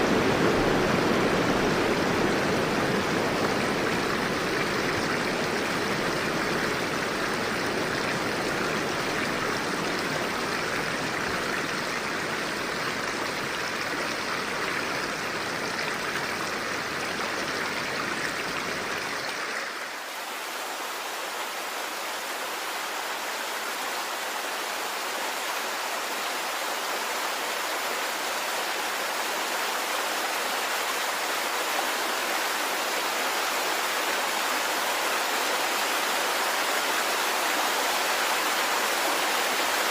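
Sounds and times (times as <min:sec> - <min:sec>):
hissing water: 0:00.0 - 0:39.9
river water rushing: 0:00.0 - 0:39.9.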